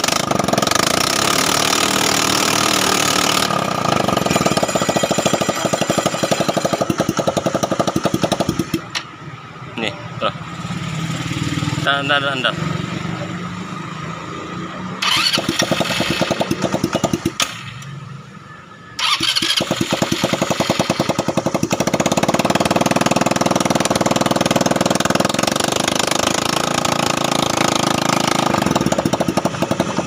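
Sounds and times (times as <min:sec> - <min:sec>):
scooter engine starting and running: 0:00.0 - 0:09.2, 0:10.3 - 0:18.4, 0:19.0 - 0:30.0.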